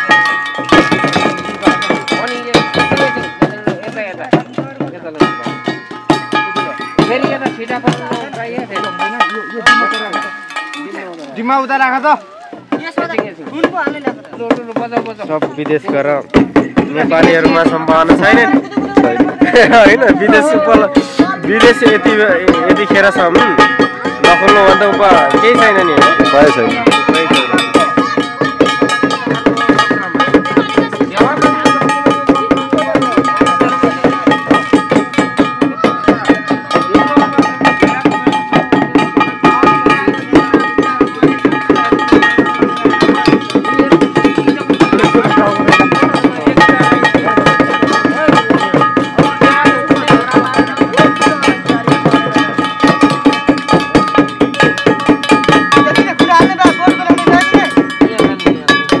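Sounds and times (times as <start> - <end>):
hand drum beating fast: 0.0 - 59.0
ringing hand cymbals: 0.0 - 59.0.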